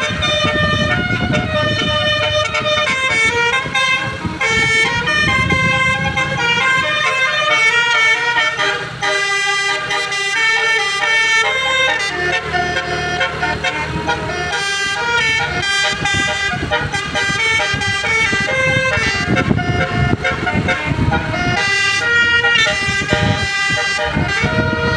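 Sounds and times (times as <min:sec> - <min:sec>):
multi-tone horn playing tune: 0:00.0 - 0:24.9.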